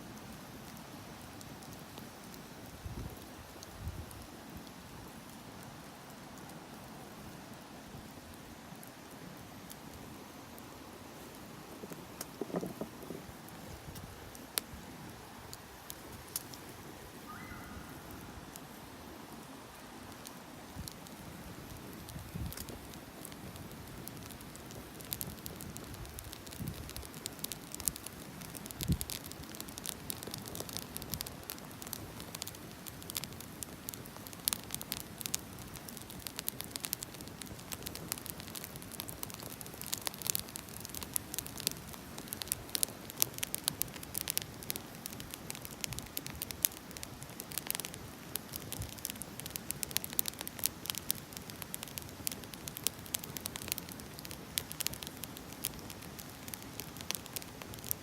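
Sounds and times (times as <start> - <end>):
fire low hiss: 0.0 - 58.0
firewood crackling and popping: 0.0 - 58.0.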